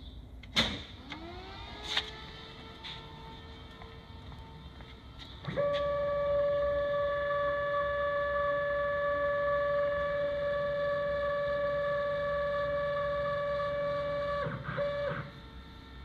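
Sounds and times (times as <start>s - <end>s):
router high-pitched whine: 1.0s - 16.0s.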